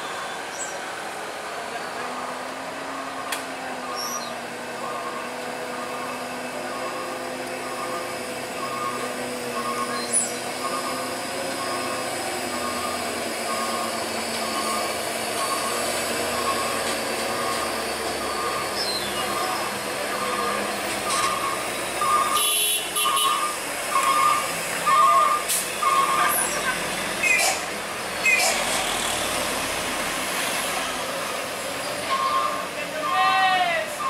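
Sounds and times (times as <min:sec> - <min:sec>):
diesel truck engines labouring: 0:00.0 - 0:34.0.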